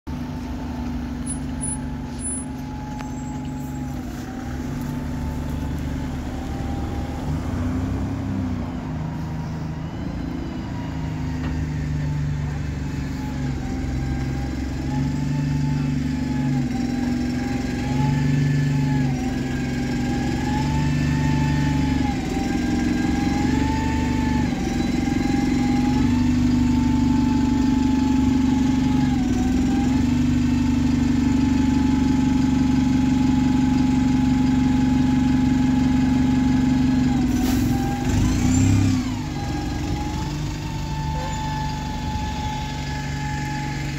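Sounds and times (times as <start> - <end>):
bus engine idling: 0.1 - 20.8, 21.6 - 43.9.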